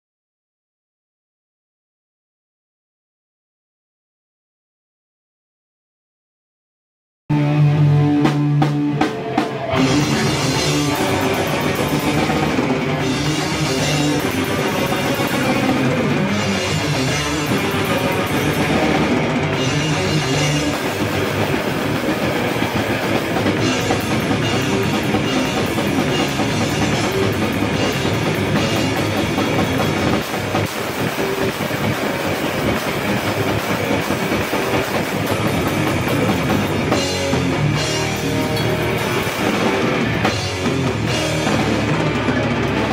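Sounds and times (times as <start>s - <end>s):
heavy metal band playing live: 7.3s - 42.9s
drums and cymbals pounding: 7.4s - 42.9s.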